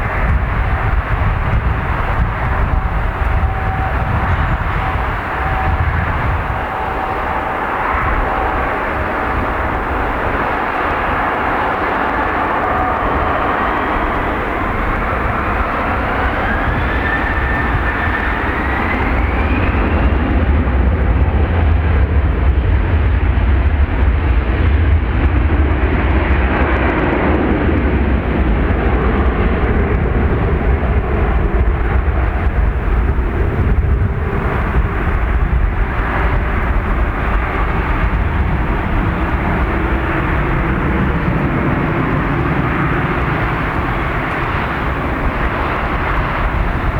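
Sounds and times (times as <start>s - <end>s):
jet engine deep rumble: 0.0s - 46.9s
jet engine whine: 0.0s - 46.9s.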